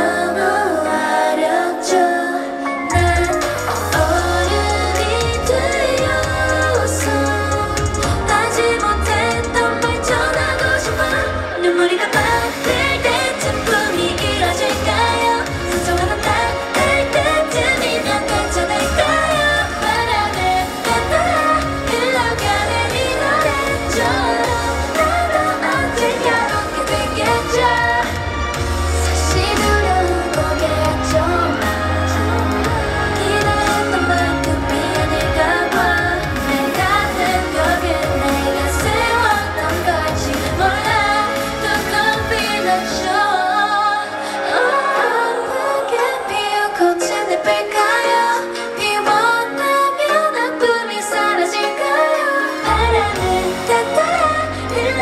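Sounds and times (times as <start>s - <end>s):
woman singing over pop track: 0.0s - 55.0s.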